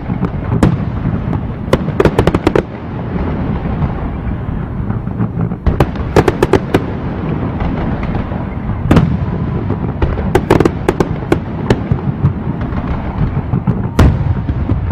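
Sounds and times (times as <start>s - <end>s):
fireworks bangs: 0.0s - 14.9s.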